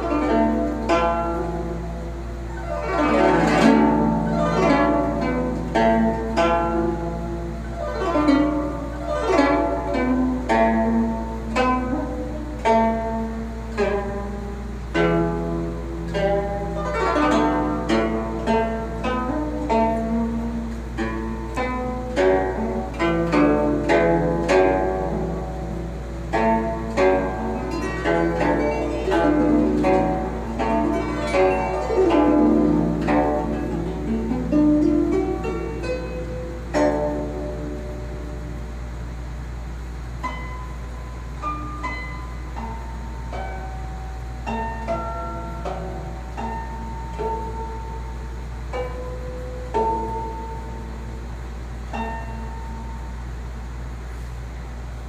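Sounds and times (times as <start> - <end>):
steady low hum: 0.0 - 55.0
zither plucked melody: 0.0 - 55.0.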